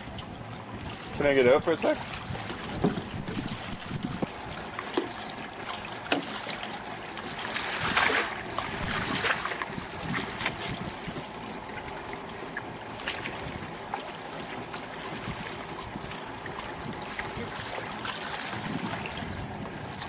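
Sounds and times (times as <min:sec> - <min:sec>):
water lapping against rocks: 0:00.0 - 0:20.0
wind: 0:00.0 - 0:20.0.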